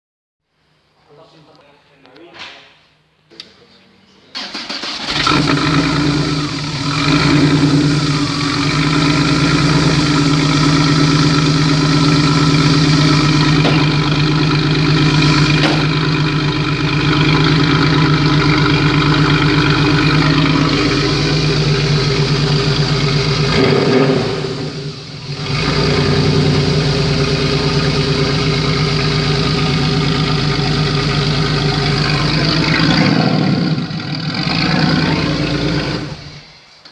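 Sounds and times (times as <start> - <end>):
car engine idling: 4.4 - 36.8.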